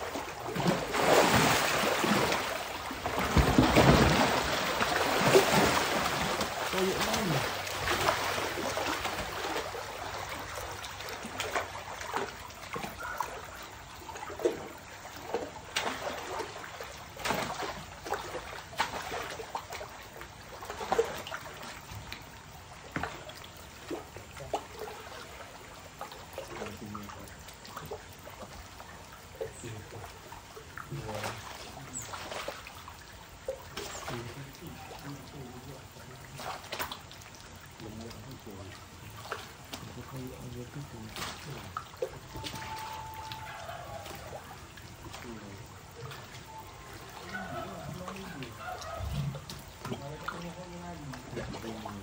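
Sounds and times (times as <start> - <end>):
short sharp splashes: 0.0 - 28.5, 30.7 - 35.5, 36.1 - 46.4
water splashing and sloshing: 0.0 - 52.0.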